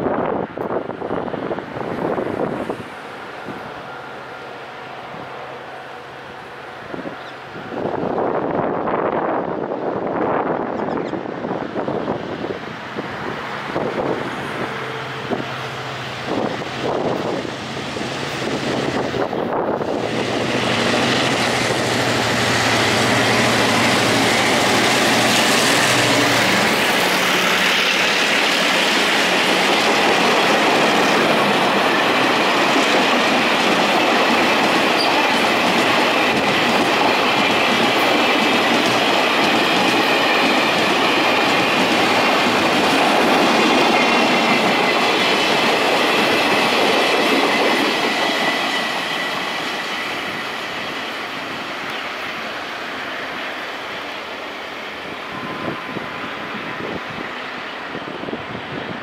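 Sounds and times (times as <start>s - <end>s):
diesel locomotive engine drone: 0.0s - 59.0s
train wheels on rails: 0.0s - 59.0s.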